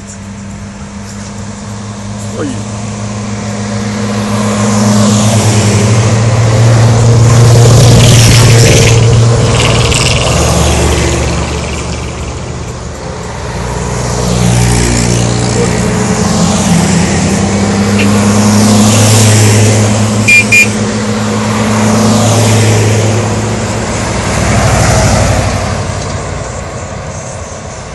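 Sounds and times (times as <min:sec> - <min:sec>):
military truck engines passing: 0:00.0 - 0:27.9.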